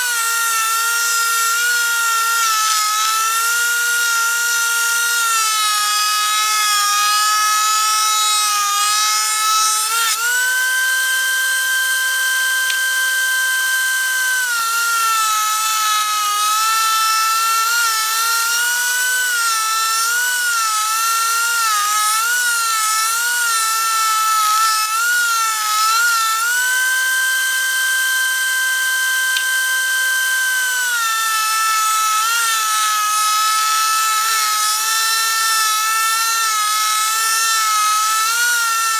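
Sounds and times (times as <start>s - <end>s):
thickness planer motor whine: 0.0s - 38.9s.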